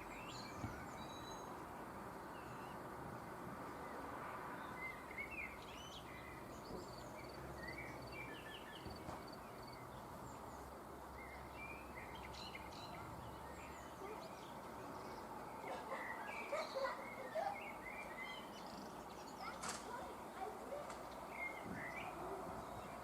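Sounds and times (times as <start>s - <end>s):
small birds chirping: 3.8s - 23.0s.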